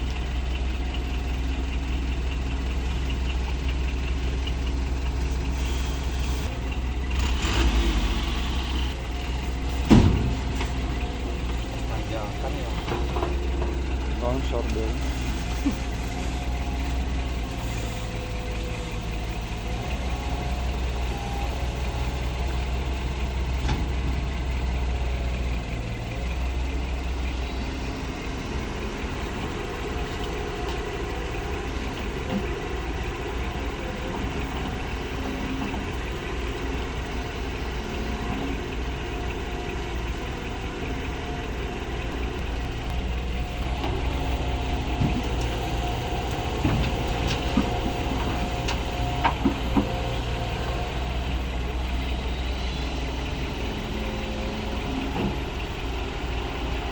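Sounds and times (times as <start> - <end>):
truck engine humming: 0.0 - 56.9.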